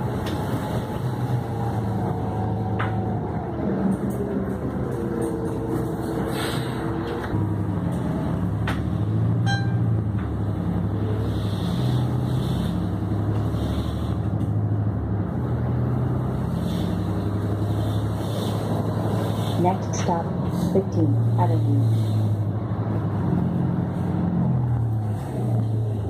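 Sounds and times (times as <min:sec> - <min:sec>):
bus engine drone: 0:00.0 - 0:26.0
tyre noise on wet road: 0:00.0 - 0:26.0.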